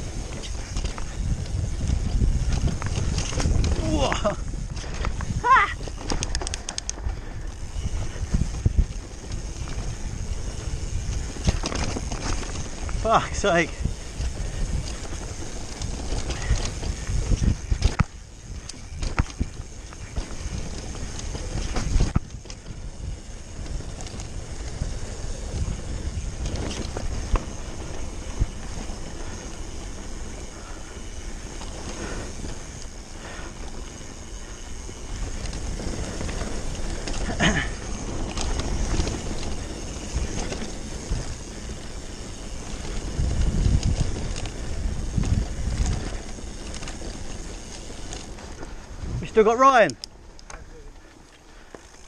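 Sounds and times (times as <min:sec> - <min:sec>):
wind rushing over microphone: 0:00.0 - 0:50.2
bike tyre and trail rumble: 0:00.0 - 0:52.0.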